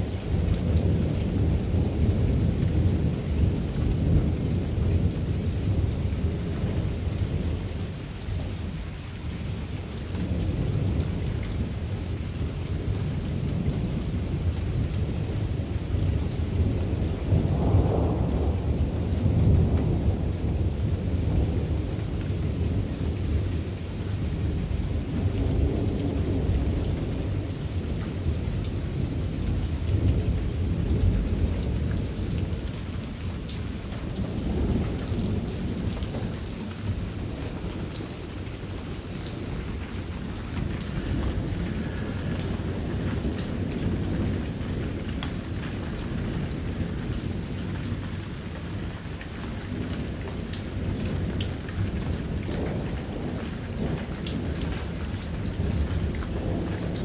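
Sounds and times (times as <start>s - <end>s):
raindrops ticking: 0.0s - 57.0s
steady rain: 0.0s - 57.0s
thunder rumbling: 0.0s - 57.0s.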